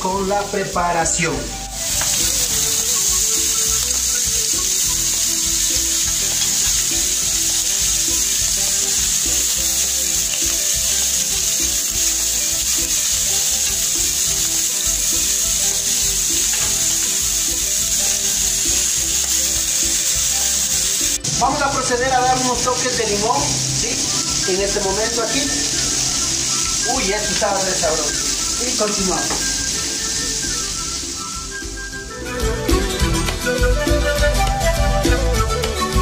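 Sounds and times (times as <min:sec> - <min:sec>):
prawns sizzling in oil: 0:00.0 - 0:36.0.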